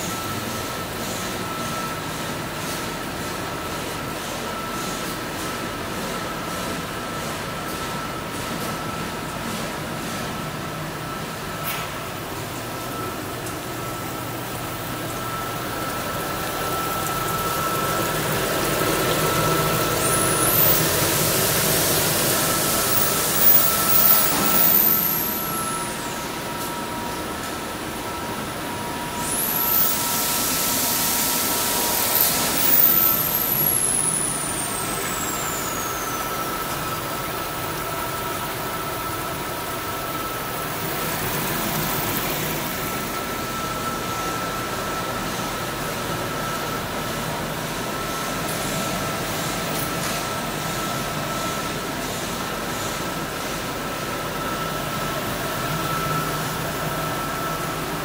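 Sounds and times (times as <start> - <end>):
loud hiss with high whine: 8.9 - 58.0
machine humming: 8.9 - 58.0.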